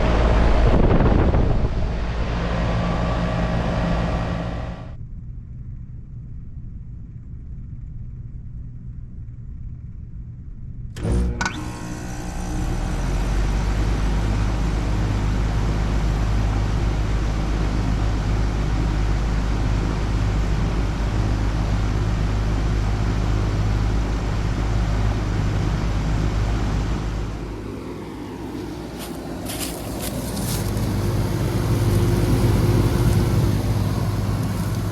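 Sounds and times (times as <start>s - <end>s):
compressor hum: 0.0s - 5.0s, 11.0s - 34.9s
outdoor fan rushing: 0.0s - 5.0s, 11.0s - 34.9s.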